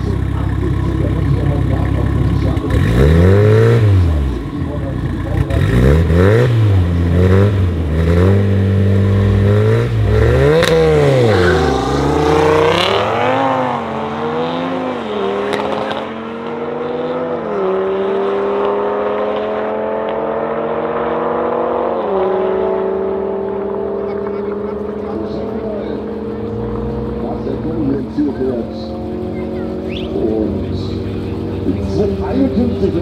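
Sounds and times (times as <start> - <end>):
car engines revving: 0.0 - 33.0
cars accelerating away: 0.0 - 33.0.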